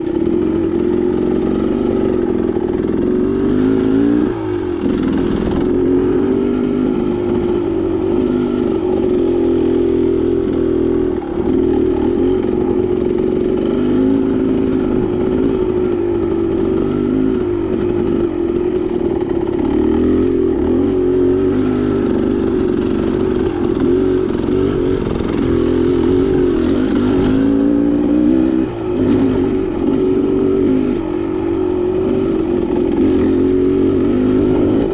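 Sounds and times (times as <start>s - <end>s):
dirt bike engine: 0.0s - 34.9s.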